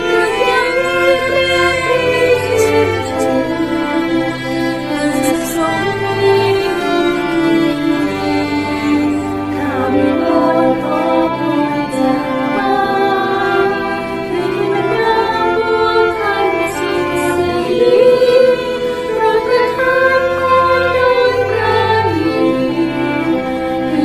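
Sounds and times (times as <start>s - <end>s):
keyboard: 0.0s - 24.0s
people singing: 0.0s - 24.0s
violins and cello: 0.0s - 24.0s.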